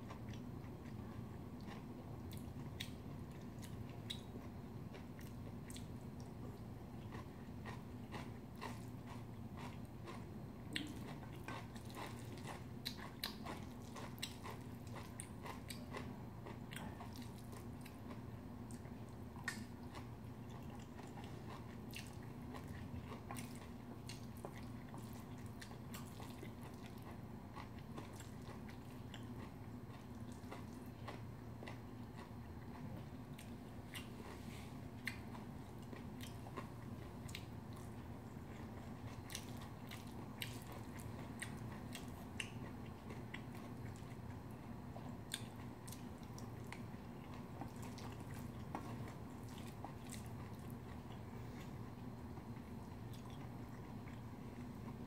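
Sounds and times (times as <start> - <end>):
close chewing: 0.0 - 55.0.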